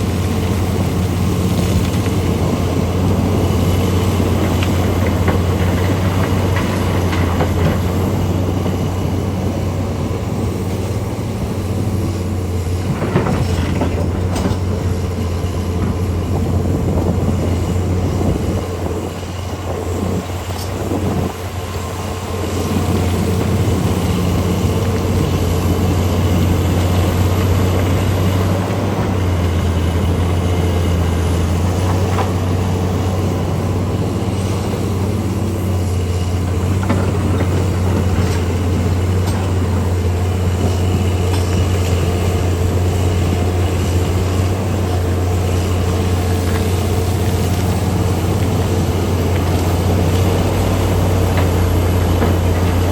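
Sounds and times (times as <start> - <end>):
heavy diesel machinery droning: 0.0 - 52.9.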